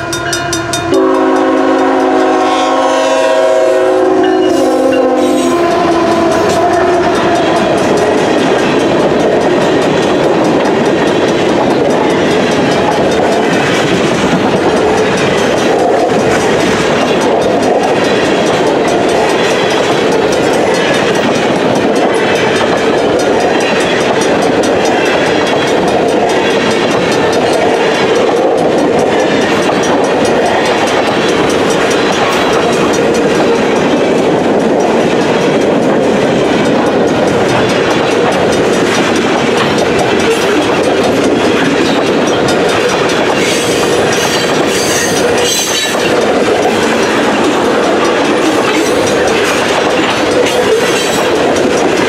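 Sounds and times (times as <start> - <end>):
clickety-clack over rail joints: 0.0 - 52.0
freight train wheels on rail: 0.0 - 52.0.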